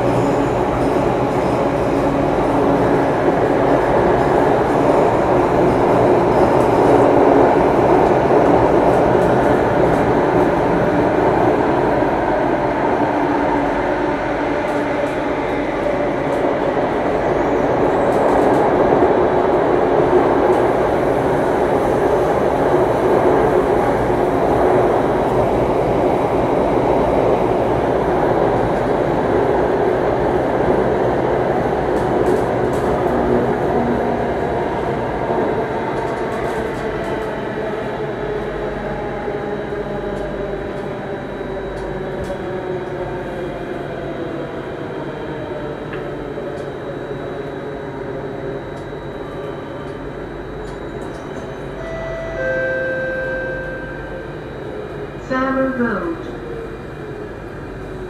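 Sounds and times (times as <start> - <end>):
train wheels on rail: 0.0 - 52.5.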